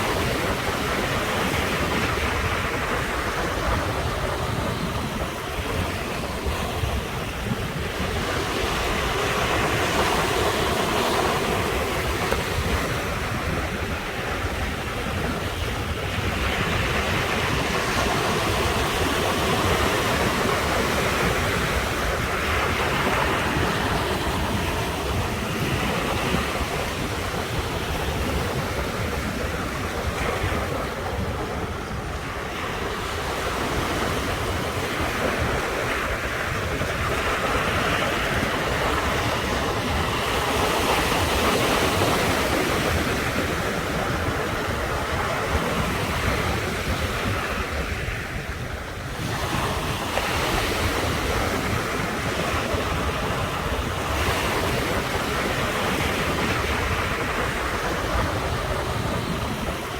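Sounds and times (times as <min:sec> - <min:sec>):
ocean surf breaking: 0:00.0 - 0:59.9
wind rumble on microphone: 0:00.0 - 0:59.9.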